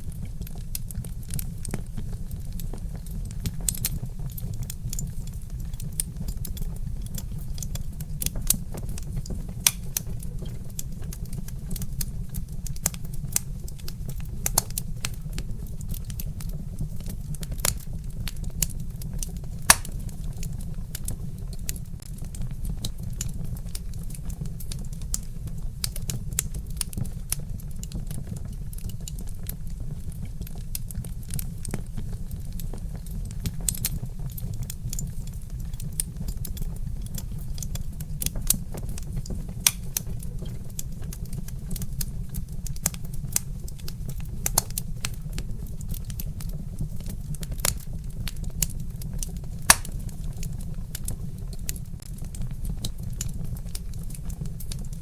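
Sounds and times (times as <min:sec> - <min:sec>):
log fire crackling and popping: 0:00.0 - 0:55.0.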